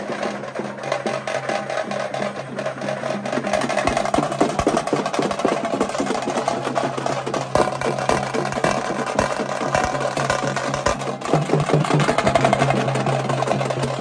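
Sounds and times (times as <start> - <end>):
fast dense drumming: 0.0 - 14.0.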